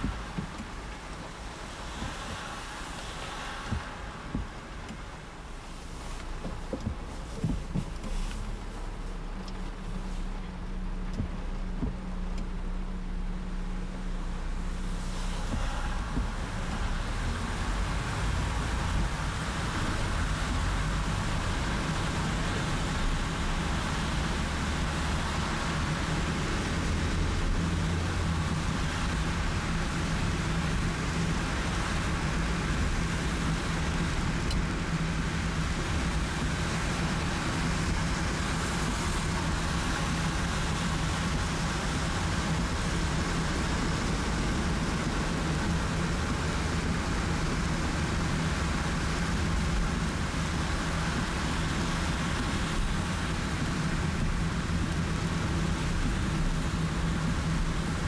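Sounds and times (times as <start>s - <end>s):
car engine and tyres droning: 0.0s - 58.0s
rain and tyre spray hissing: 0.0s - 58.0s.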